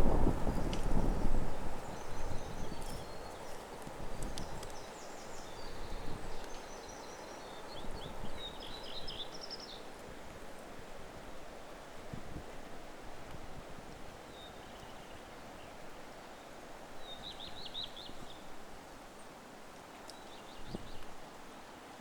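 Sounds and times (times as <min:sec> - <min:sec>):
wind rustling in trees: 0:00.0 - 0:22.0.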